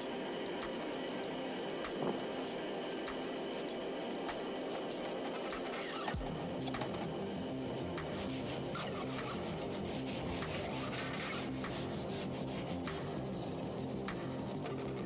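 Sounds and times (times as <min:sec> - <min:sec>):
background music: 0:00.0 - 0:15.0
hand sanding strokes: 0:00.0 - 0:15.0.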